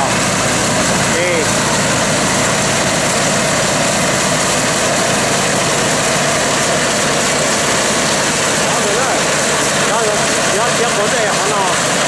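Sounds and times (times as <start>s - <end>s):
combine threshing machinery: 0.0s - 12.0s
tractor engine: 0.0s - 12.0s.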